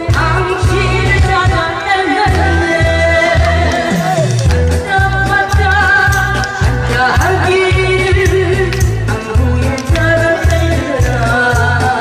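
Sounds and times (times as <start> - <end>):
backing music with pulsing bass: 0.0 - 12.0
woman singing into microphone: 0.0 - 12.0.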